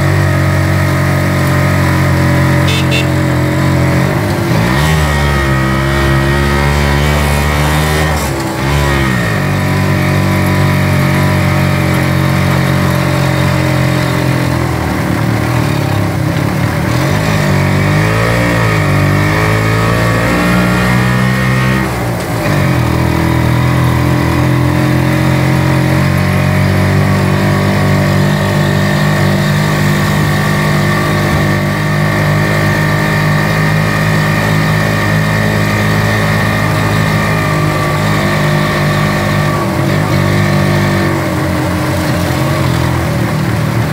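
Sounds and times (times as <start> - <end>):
two-stroke motorcycle engine: 0.0 - 43.9.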